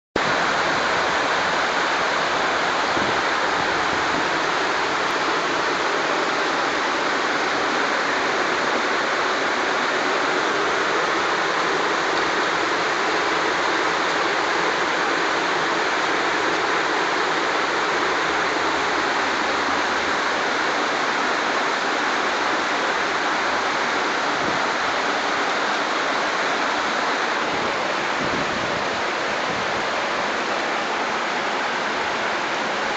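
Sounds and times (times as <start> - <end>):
rain falling on rooftops: 0.2 - 32.9.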